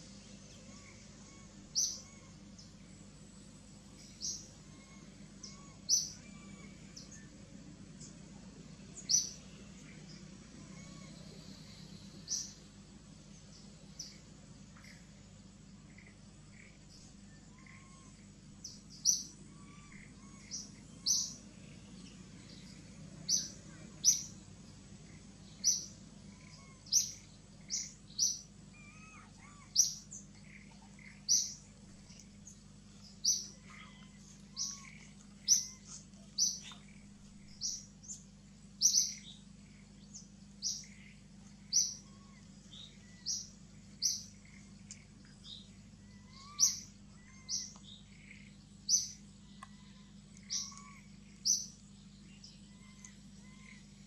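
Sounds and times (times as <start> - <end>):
bird chirping: 0.0 - 7.3, 8.9 - 12.6, 13.3 - 54.0
faint steady hum: 0.0 - 54.0.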